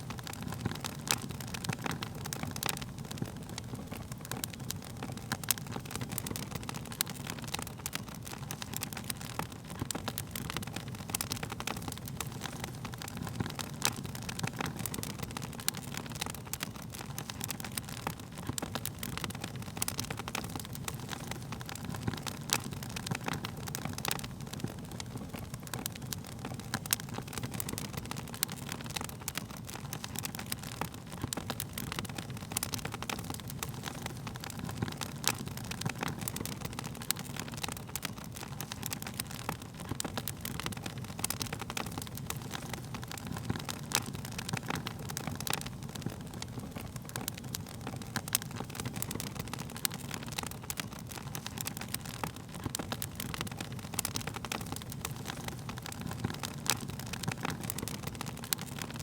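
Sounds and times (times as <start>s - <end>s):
burning wood crackling and popping: 0.0s - 59.0s
low rumble of flames: 0.0s - 59.0s.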